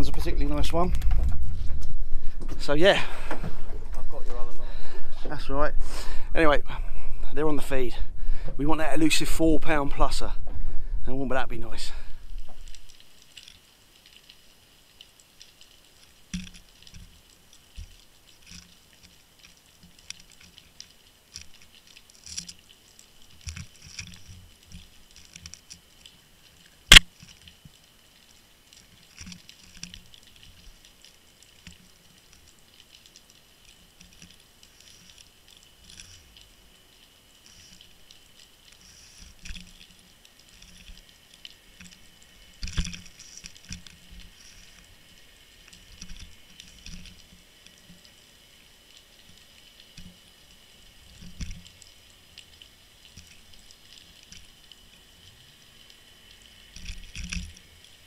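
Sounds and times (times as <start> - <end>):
small underwater knocks and rattles: 0.0 - 5.4, 12.2 - 48.2, 48.8 - 58.0
faint high hiss: 11.0 - 58.0.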